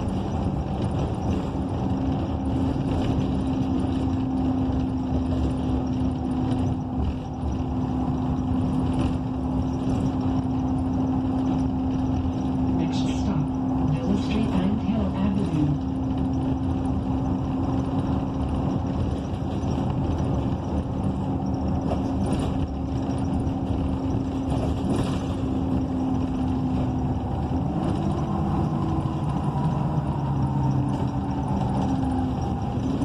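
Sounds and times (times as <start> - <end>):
bus engine drone from inside: 0.0 - 33.0.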